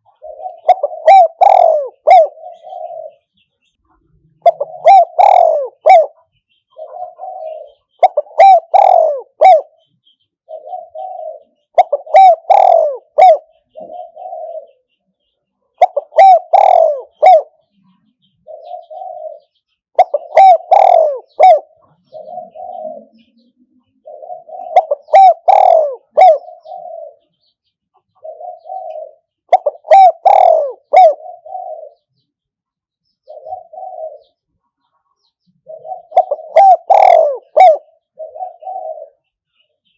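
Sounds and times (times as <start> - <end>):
dove cooing: 0.0 - 3.4, 4.3 - 14.9, 15.7 - 32.2, 33.2 - 34.5, 35.5 - 39.5.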